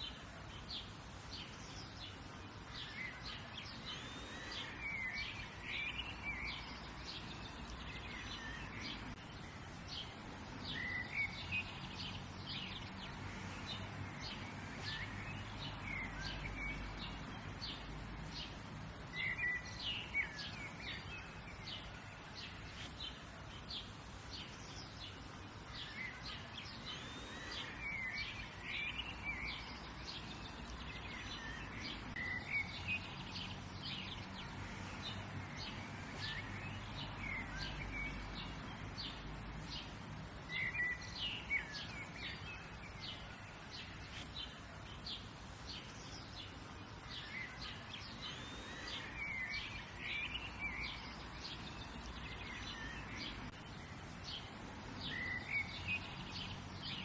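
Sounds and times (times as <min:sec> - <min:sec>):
songbirds chirping and singing: 0:00.0 - 0:57.0
steady outdoor hiss: 0:00.0 - 0:57.0.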